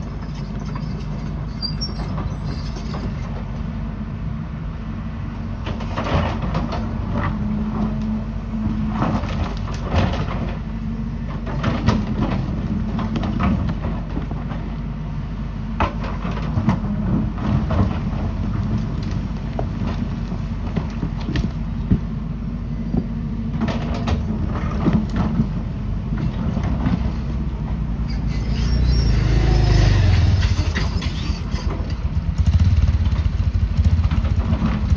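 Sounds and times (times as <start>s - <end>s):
excavator diesel engine running: 4.6s - 34.9s.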